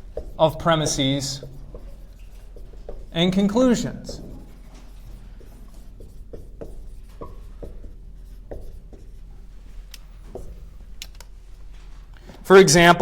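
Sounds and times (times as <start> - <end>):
pen strokes on a board: 0.0 - 10.9.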